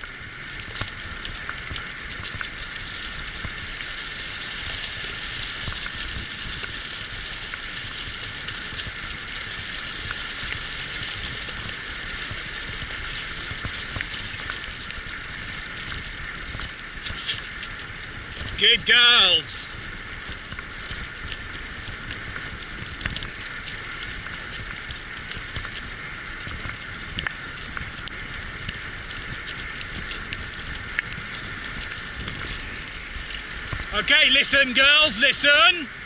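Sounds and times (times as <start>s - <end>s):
tyres hissing on trail: 0.1s - 36.0s.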